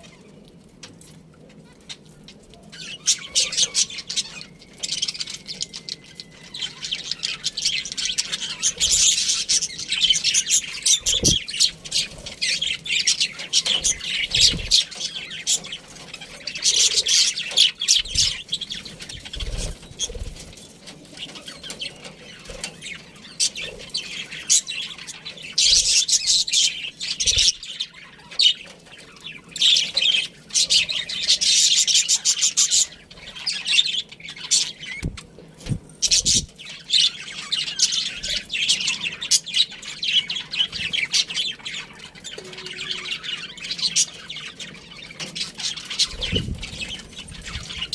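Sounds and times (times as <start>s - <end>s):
budgerigars chattering: 2.8s - 20.5s, 21.1s - 47.9s.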